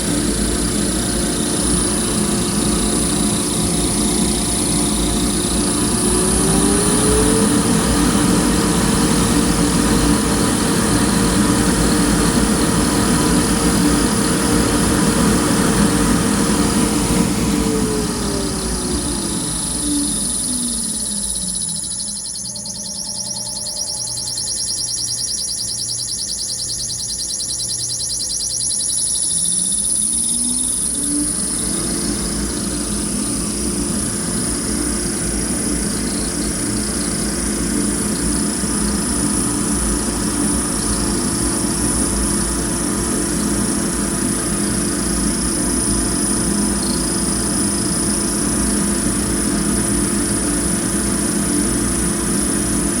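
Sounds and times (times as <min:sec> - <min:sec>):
low hum: 0:00.0 - 0:27.0, 0:29.3 - 0:47.0
fan motor whine: 0:00.0 - 0:53.0
high-pitched whine: 0:00.0 - 0:53.0.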